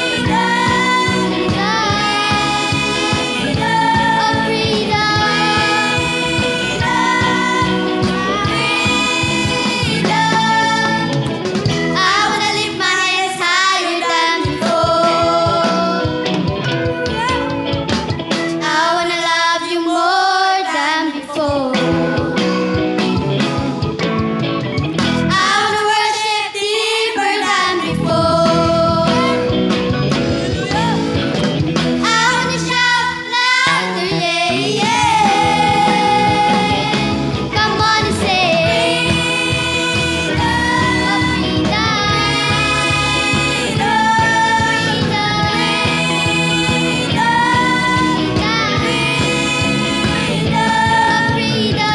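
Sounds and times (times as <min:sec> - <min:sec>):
children's choir singing: 0:00.0 - 0:16.3, 0:18.6 - 0:22.7, 0:25.3 - 0:29.5, 0:32.0 - 0:51.9
steady instrumental tones: 0:00.0 - 0:18.7, 0:27.9 - 0:51.9.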